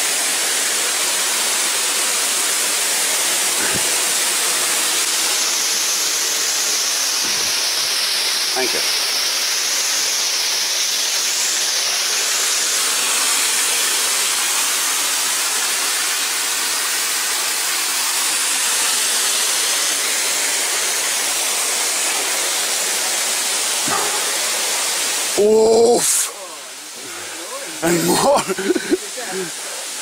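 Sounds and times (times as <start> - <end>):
water rushing over boulders: 0.0 - 30.0.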